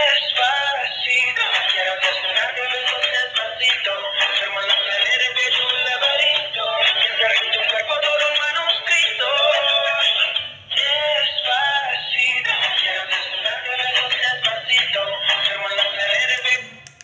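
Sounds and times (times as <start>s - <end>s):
tinny song from toy speaker: 0.0s - 16.8s.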